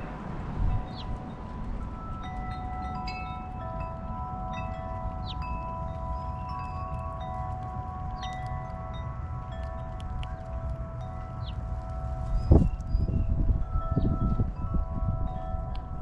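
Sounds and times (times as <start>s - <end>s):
wind rumble on microphone: 0.0s - 16.0s
wind chimes ringing: 0.6s - 16.0s.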